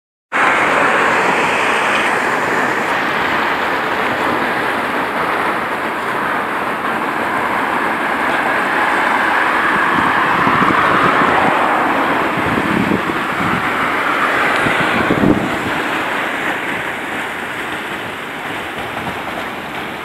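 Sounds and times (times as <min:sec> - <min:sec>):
city traffic: 0:00.3 - 0:20.0.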